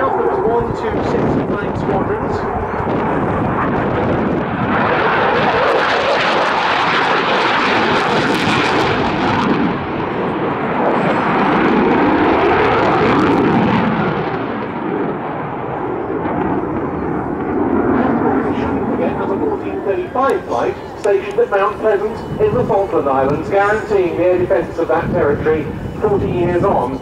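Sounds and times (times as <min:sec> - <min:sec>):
fighter jet roaring: 0:00.0 - 0:27.0.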